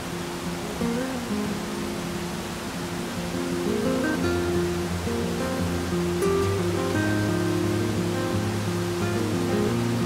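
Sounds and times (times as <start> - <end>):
acoustic guitar music: 0.0 - 10.0
steady rushing noise: 0.0 - 10.0.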